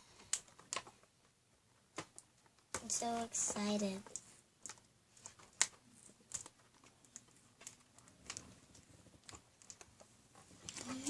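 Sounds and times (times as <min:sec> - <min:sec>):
hands clicking and tapping a box: 0:00.2 - 0:11.0.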